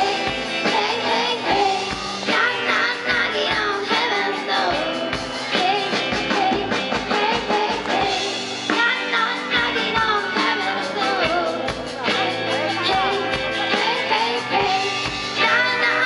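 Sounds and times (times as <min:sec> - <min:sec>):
drum kit beat: 0:00.0 - 0:16.0
electric guitar: 0:00.0 - 0:16.0
person singing: 0:00.0 - 0:16.0.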